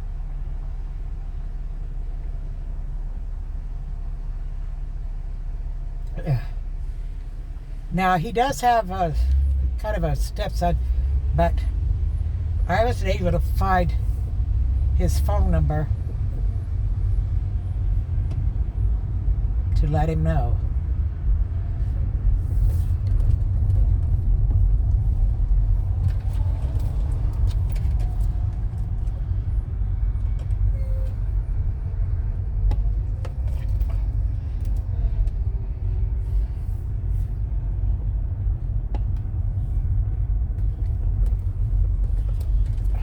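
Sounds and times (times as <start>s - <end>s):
low engine and road rumble: 0.0s - 43.0s.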